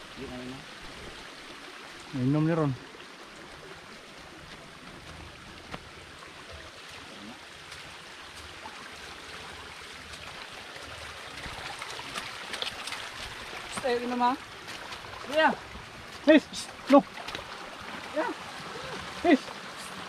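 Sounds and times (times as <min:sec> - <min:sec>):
small stream of water running: 0:00.0 - 0:20.0.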